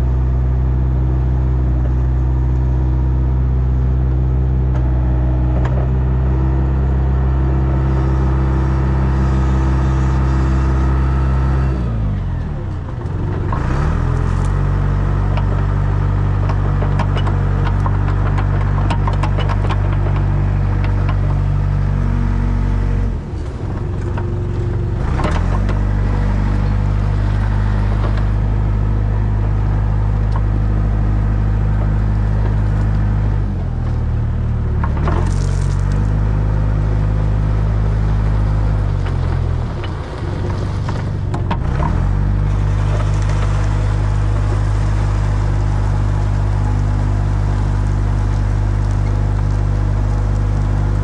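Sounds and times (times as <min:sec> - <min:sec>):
diesel engine working: 0:00.0 - 0:51.0
crackling and scraping: 0:04.5 - 0:51.0.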